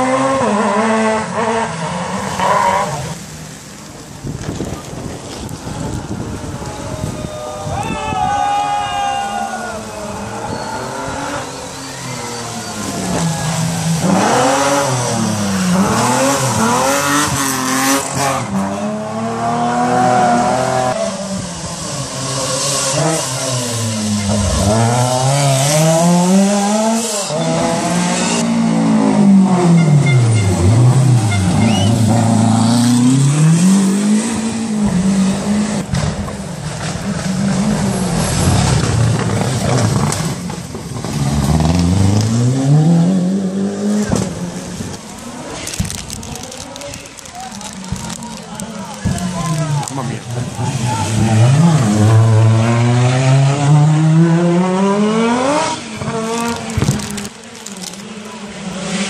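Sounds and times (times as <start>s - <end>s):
rally car engines revving: 0.0s - 7.7s, 9.4s - 59.0s.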